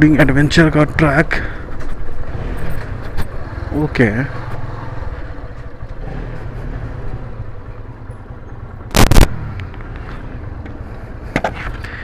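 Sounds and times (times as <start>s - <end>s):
motorcycle engine low rumble: 0.0s - 12.0s.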